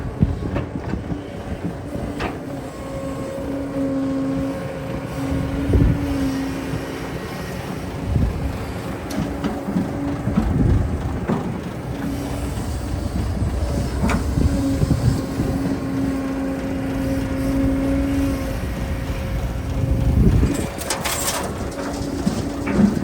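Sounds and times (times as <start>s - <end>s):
construction machinery engine under load: 0.0s - 23.0s.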